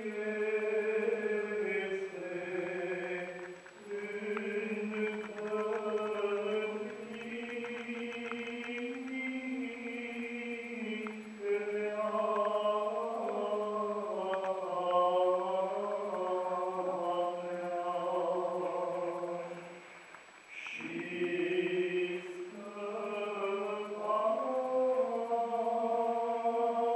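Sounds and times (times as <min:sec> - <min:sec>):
voices chanting slow melody: 0:00.0 - 0:26.9.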